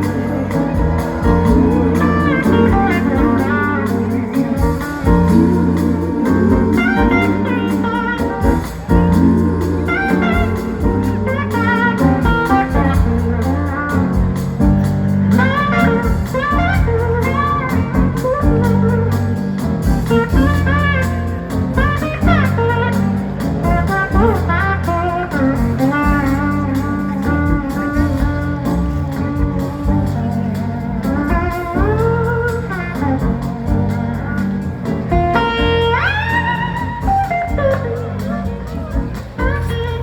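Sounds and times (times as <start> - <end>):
electric guitar solo: 0.0 - 14.4, 21.8 - 40.0
blues-rock band playing: 0.0 - 40.0.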